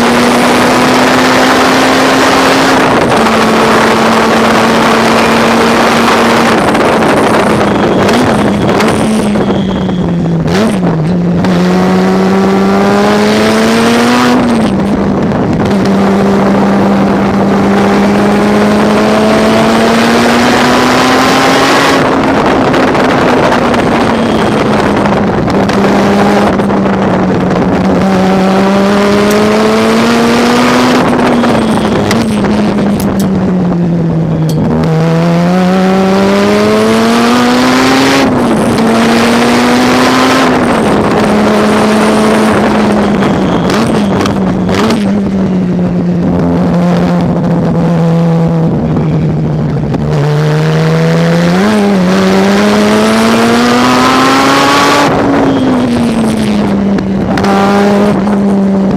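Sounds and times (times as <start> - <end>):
race car engine at high revs: 0.0 - 58.9.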